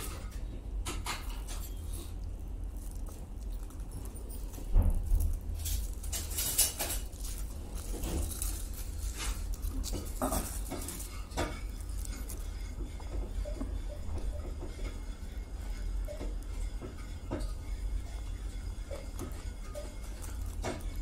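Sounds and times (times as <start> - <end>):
aluminium foil crinkling: 1.0 - 21.0.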